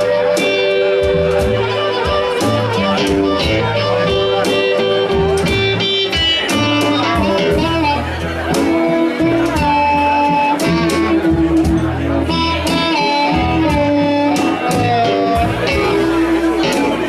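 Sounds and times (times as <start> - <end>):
bending lead notes: 0.0 - 17.0
live band playing: 0.0 - 17.0.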